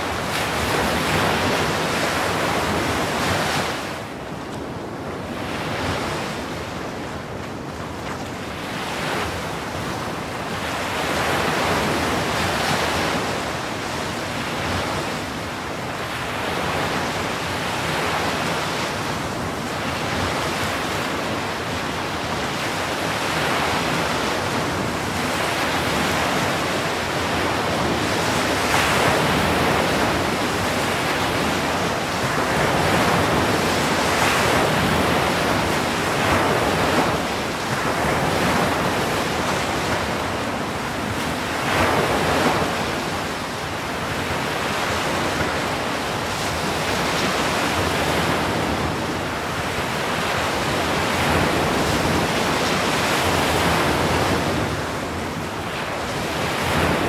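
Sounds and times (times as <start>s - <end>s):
surf waves breaking: 0.0s - 57.0s.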